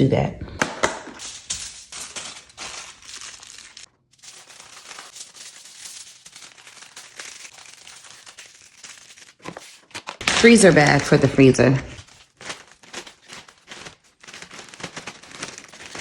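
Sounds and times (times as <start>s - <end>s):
plastic bag crinkling: 0.8s - 16.0s.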